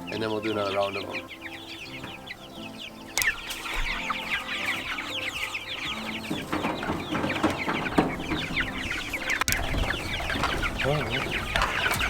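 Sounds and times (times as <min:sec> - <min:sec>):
chicks peeping: 0:00.0 - 0:12.0
rustling: 0:01.2 - 0:12.0.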